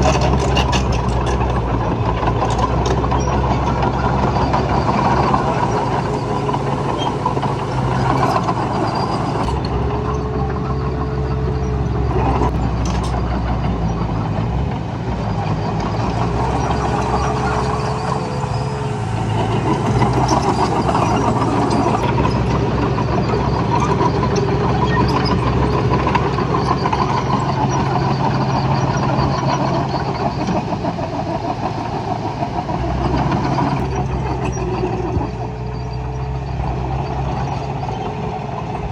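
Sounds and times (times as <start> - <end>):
heavy diesel engine under load: 0.0 - 38.9.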